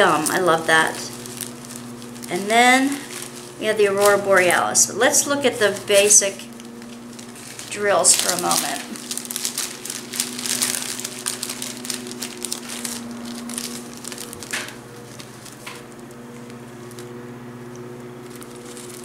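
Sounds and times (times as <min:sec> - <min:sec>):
plastic bags crinkling: 0:00.0 - 0:19.0
steady low hum: 0:00.0 - 0:19.0.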